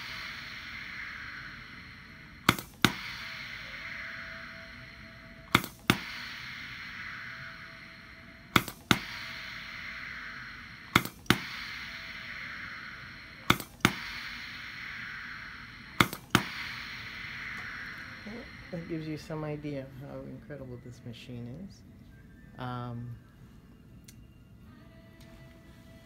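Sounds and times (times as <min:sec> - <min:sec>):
soft hiss: 0:00.0 - 0:26.0.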